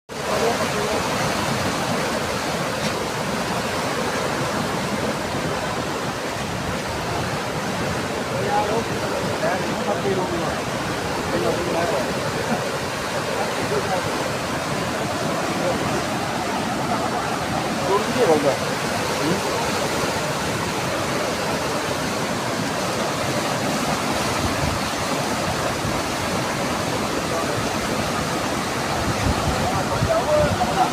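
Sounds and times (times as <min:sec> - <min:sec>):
river rushing: 0:00.1 - 0:30.9.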